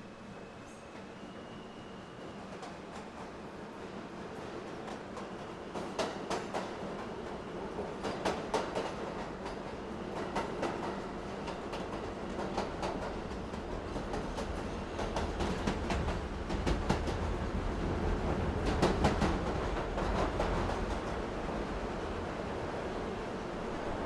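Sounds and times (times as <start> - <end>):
subway train rumble: 0.0 - 24.0.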